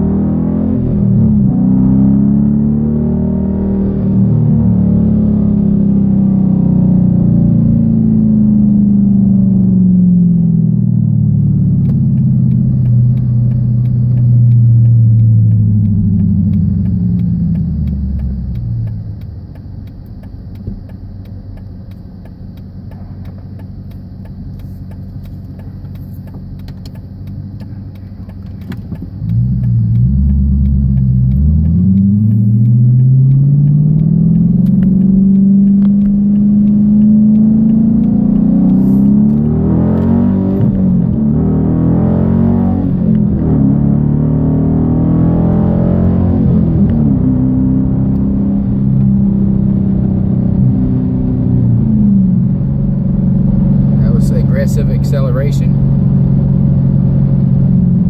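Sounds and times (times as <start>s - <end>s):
car engine idling and accelerating: 0.0s - 58.0s.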